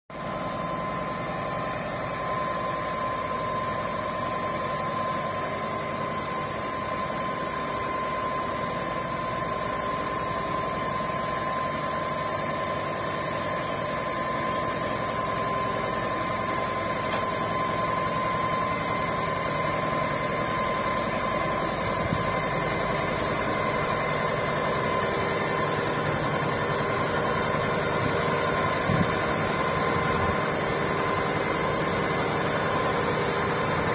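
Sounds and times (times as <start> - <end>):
heavy engine idling: 0.1 - 33.9
constant high tone: 0.2 - 33.9.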